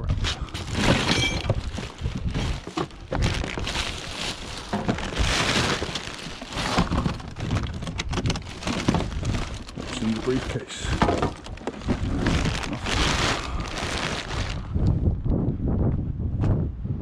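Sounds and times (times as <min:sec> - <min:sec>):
plastic junk clattering: 0:00.0 - 0:14.6
wind rumble on microphone: 0:00.0 - 0:17.0.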